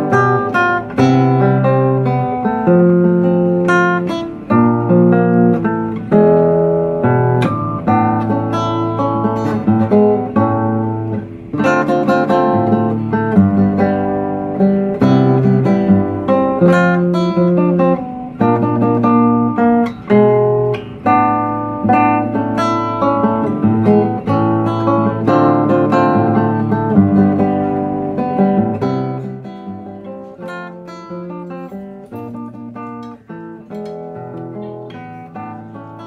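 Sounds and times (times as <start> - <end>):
plucked acoustic guitar: 0.0 - 36.0.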